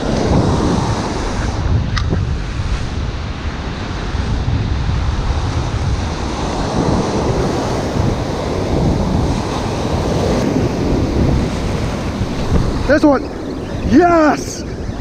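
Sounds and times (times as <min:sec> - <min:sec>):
ocean surf washing on beach: 0:00.0 - 0:15.0
wind buffeting microphone: 0:00.0 - 0:15.0.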